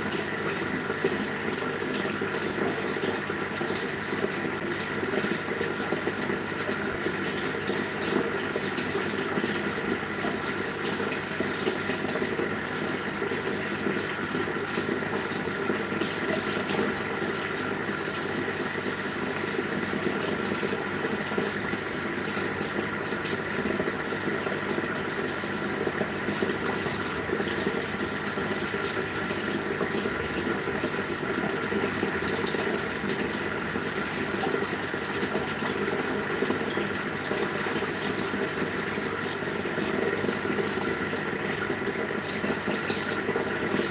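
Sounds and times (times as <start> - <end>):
aquarium air bubbles: 0.0 - 43.9.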